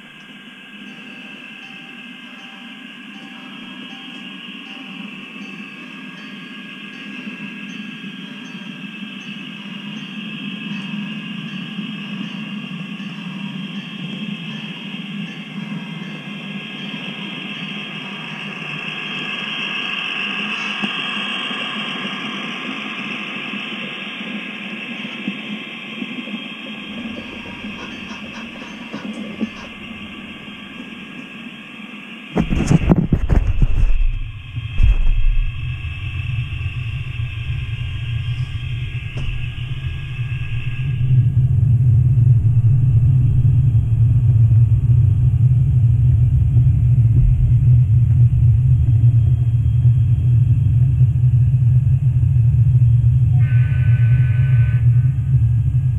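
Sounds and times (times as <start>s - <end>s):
model train rumbling: 0.0s - 55.9s.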